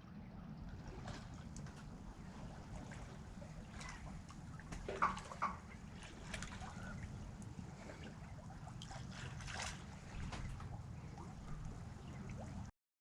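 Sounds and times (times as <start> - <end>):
steady low rumble: 0.0 - 12.7
water splashing along hull: 0.0 - 12.7.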